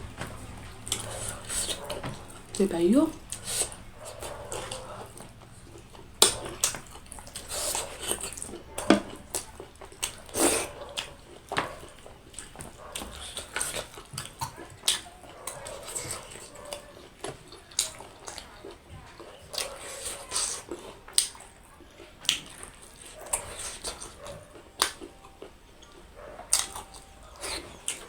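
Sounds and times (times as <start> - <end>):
person chewing noisily: 0.0 - 28.0.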